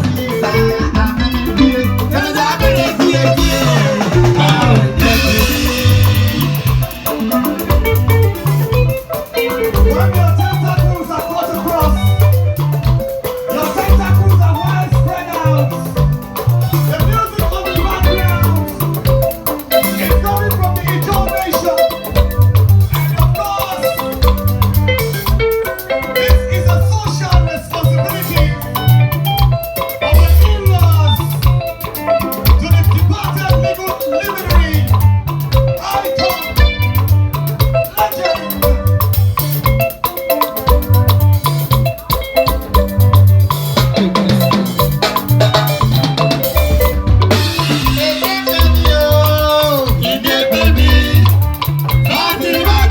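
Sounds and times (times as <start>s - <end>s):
driving bass line: 0.0s - 52.9s
upbeat dance-band music: 0.0s - 52.9s
shaker-like rattling percussion: 5.0s - 52.9s.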